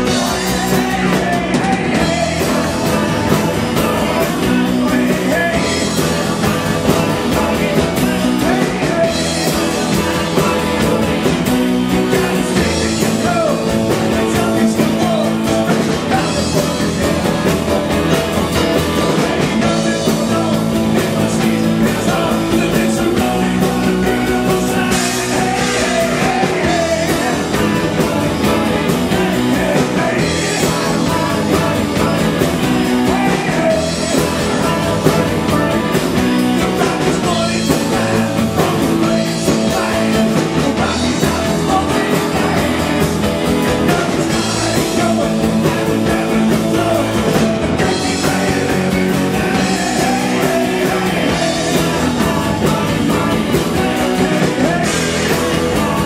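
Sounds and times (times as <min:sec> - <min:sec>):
bass guitar: 0:00.0 - 0:56.0
drum kit: 0:00.0 - 0:56.0
electric guitars: 0:00.0 - 0:56.0
man singing lead: 0:00.0 - 0:56.0.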